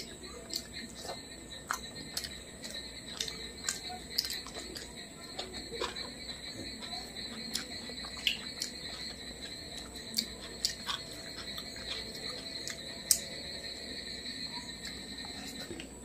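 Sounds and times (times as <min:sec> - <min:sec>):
fingers mixing food on a plate: 0:00.0 - 0:16.0
steady high-pitched whine: 0:00.0 - 0:16.0.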